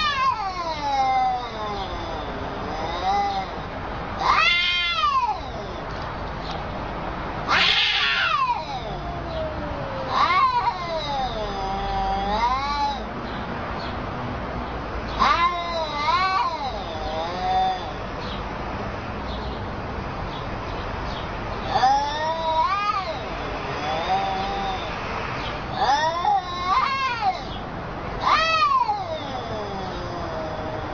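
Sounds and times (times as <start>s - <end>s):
cats yowling: 0.0s - 6.6s, 7.4s - 13.2s, 15.0s - 18.4s, 21.5s - 30.9s.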